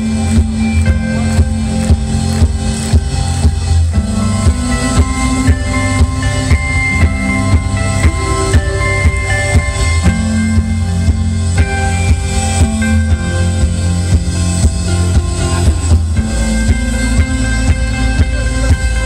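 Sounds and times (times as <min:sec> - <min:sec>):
electric guitar lines: 0:00.0 - 0:19.0
heavy bass: 0:00.0 - 0:19.0.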